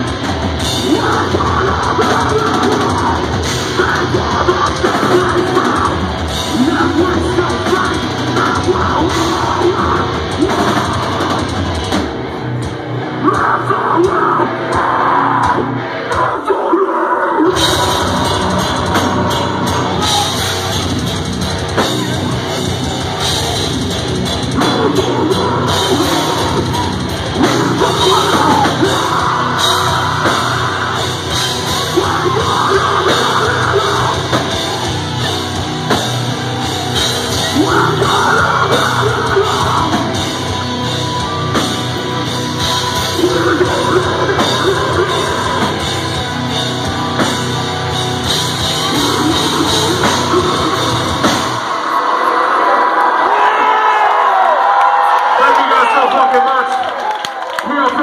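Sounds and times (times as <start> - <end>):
harsh vocals: 0.0 - 54.7
metal band playing live: 0.0 - 58.0.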